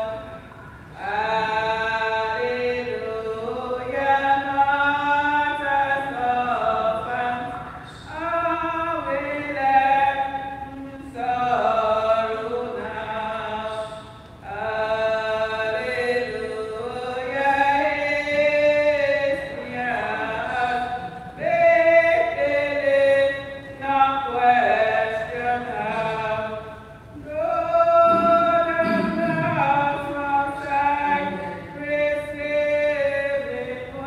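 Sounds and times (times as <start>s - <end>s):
voices singing unaccompanied chant: 1.0s - 34.0s.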